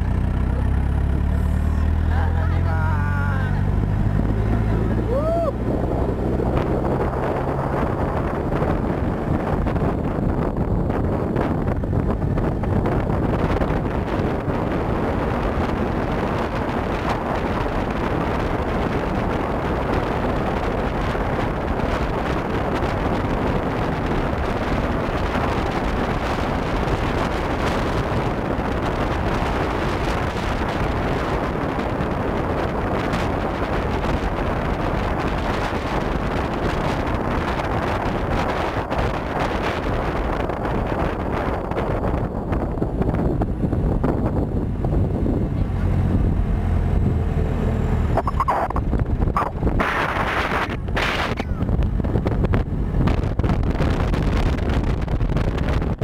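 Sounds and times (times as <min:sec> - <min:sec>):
vehicle running noise: 0:00.0 - 0:56.0
wind rush on microphone: 0:00.0 - 0:56.0.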